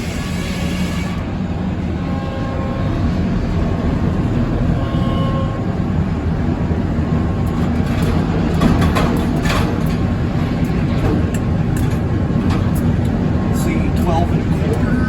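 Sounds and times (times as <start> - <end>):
sawmill engine drone: 0.0 - 15.0.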